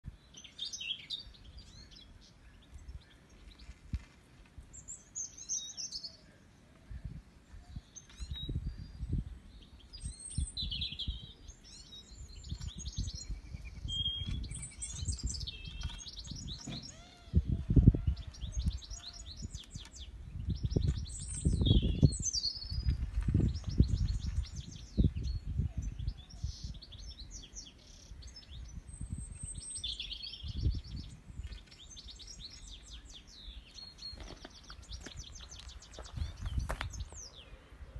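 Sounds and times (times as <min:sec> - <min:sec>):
songbirds chirping and twittering: 0:00.0 - 0:37.9.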